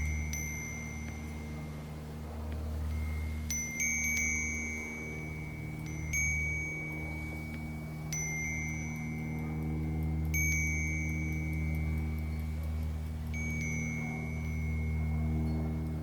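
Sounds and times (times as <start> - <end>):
steady low hum: 0.0 - 16.0
wind chime ringing: 0.0 - 16.0.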